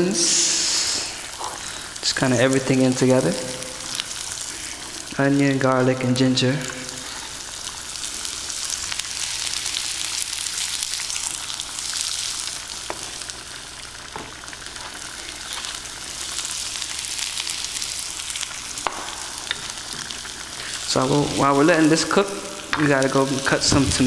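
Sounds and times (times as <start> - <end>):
onion sizzling in hot oil: 0.0 - 24.0.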